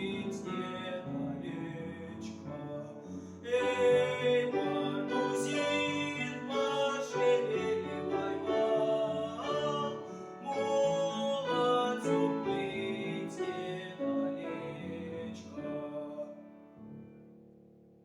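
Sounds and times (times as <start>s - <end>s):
person singing: 0.0s - 16.4s.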